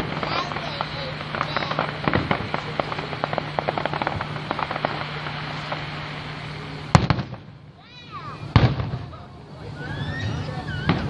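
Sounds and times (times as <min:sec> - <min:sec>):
fireworks pops and crackles: 0:00.0 - 0:11.0.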